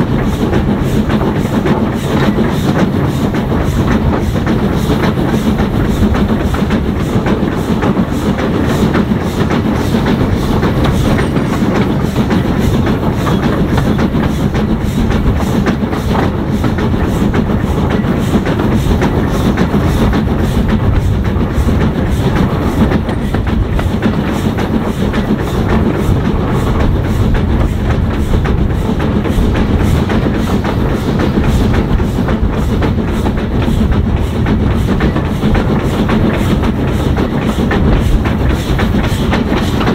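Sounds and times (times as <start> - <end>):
steam train running: 0.0 - 39.9
wheels clacking on rails: 0.0 - 39.9.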